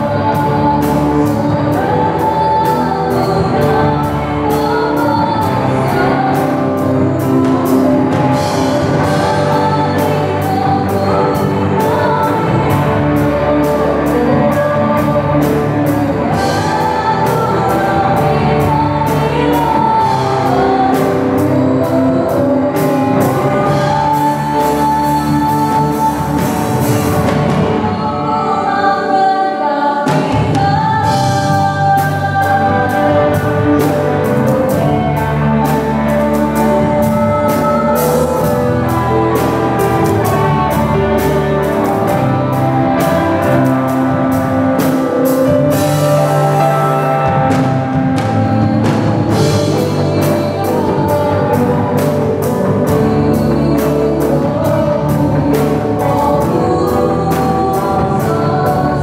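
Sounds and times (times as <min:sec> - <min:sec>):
live band playing: 0:00.0 - 0:59.0
woman singing: 0:00.0 - 0:59.0.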